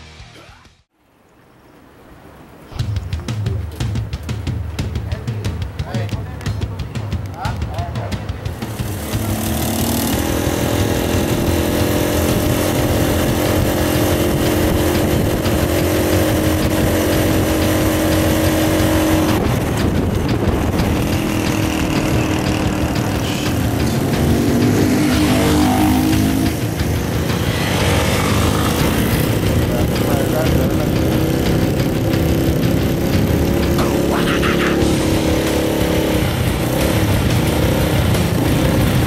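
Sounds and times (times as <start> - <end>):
motorcycle engines running: 3.0 - 39.0.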